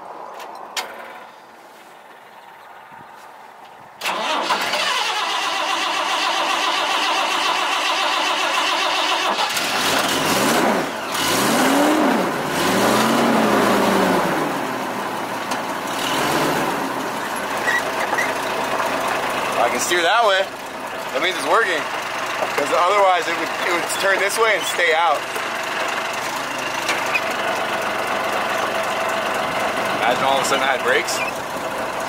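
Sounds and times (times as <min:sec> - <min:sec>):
truck engine starting and running: 0:00.0 - 0:32.0.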